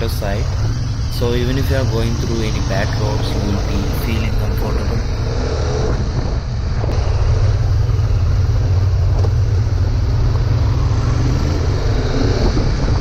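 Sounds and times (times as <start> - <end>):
motorcycle engine: 0.0 - 13.0
wind rumble on microphone: 0.0 - 13.0.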